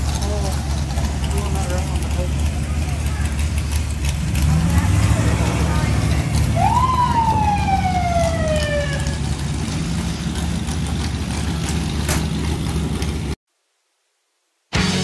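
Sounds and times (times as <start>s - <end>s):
off-road vehicle engines rumbling: 0.0s - 13.4s.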